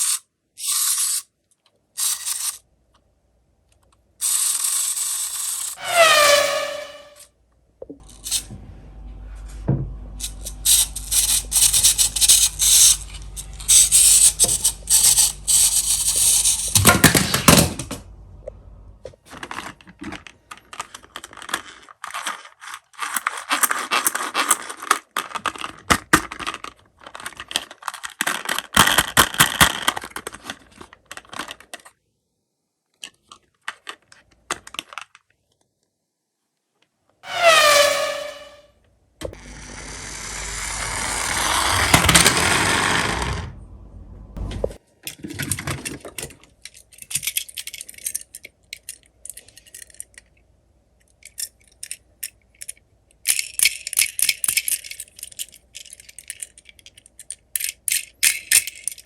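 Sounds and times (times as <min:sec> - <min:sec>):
toy cars clattering and scraping: 0:00.0 - 0:03.1, 0:03.7 - 0:07.3, 0:08.0 - 0:08.6, 0:10.2 - 0:18.0, 0:19.0 - 0:32.0, 0:32.9 - 0:35.6, 0:39.2 - 0:43.7, 0:44.5 - 0:59.0.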